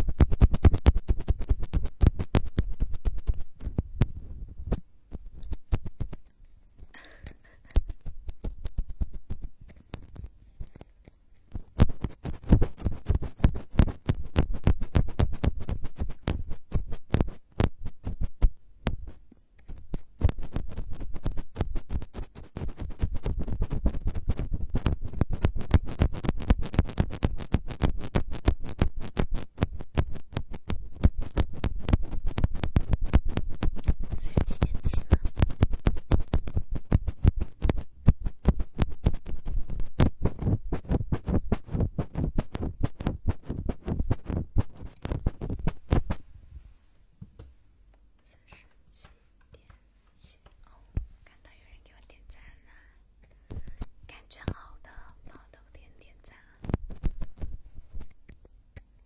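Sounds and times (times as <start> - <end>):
close tapping and scratching: 0.0 - 46.3, 47.0 - 59.0.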